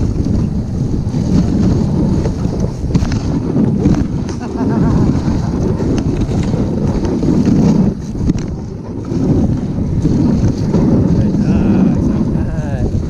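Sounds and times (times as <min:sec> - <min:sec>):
sled runners rushing on snow: 0:00.0 - 0:13.0
wind buffeting microphone: 0:00.0 - 0:13.0.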